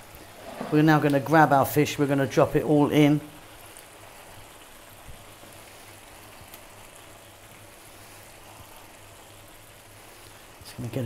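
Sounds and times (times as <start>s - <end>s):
sauce bubbling in a frying pan: 0.0s - 11.0s.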